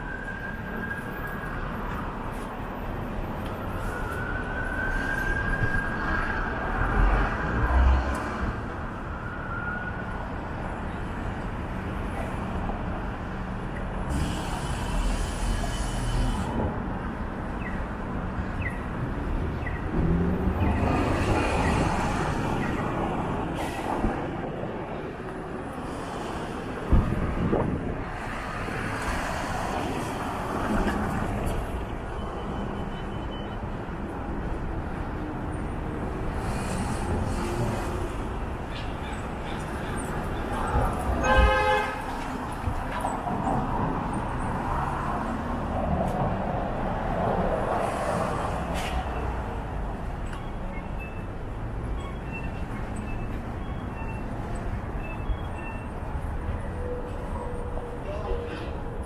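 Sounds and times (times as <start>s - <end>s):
vehicles passing on street: 0.0s - 59.0s.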